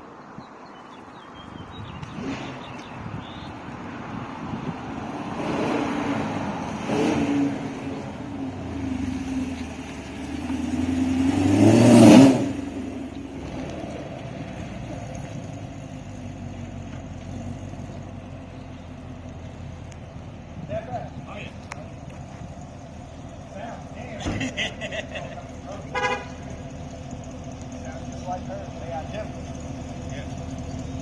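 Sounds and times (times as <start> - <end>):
car engine idling and revving: 1.0 - 31.0.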